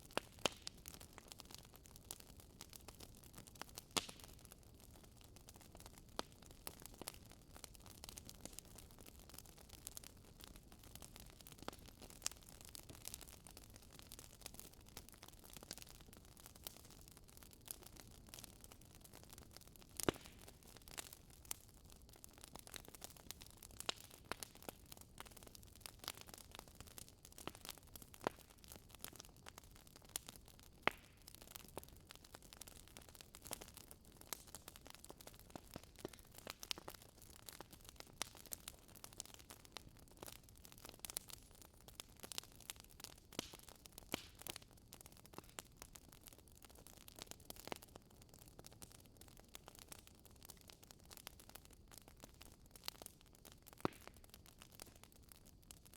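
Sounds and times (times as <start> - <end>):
fire log crackling and popping: 0.0 - 55.9.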